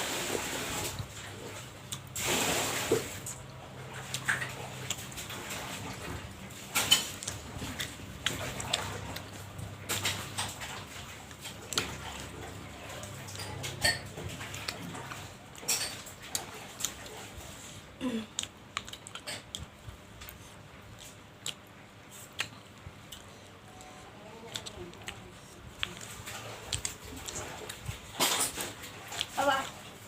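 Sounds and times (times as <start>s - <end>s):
person chewing: 3.3s - 29.8s.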